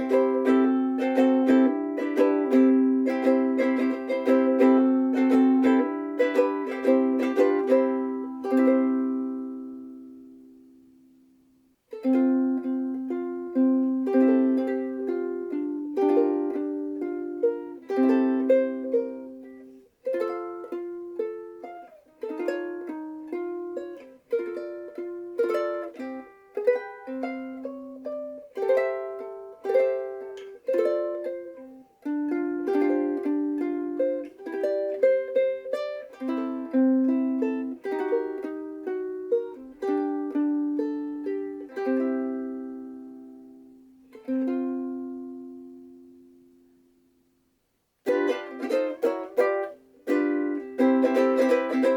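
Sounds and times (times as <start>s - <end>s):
ukulele chords: 0.0s - 51.9s
ukulele picked notes: 0.0s - 51.9s.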